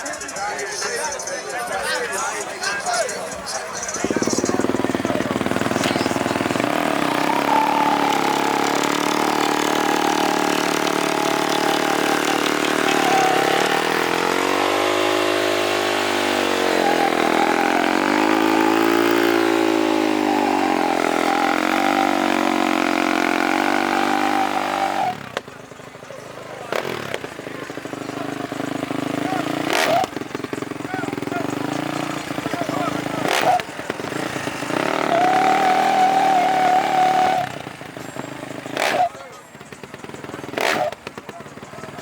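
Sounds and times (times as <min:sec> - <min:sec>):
racing engine revving: 0:01.8 - 0:42.0.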